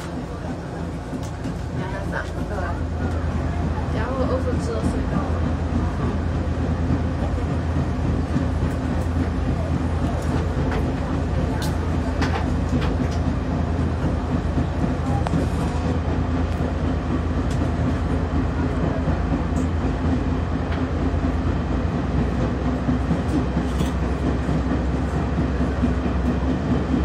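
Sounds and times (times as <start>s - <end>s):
train wheels rumbling in tunnel: 0.0s - 27.0s.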